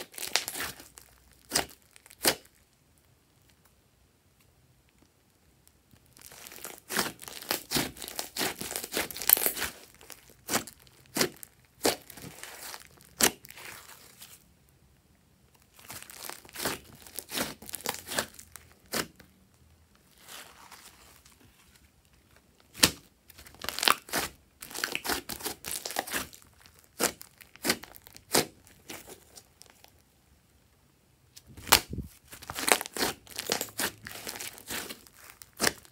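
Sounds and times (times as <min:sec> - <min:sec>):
slime crackling and popping: 0:00.0 - 0:02.7, 0:04.9 - 0:14.4, 0:15.6 - 0:21.4, 0:22.6 - 0:30.0, 0:31.4 - 0:35.9.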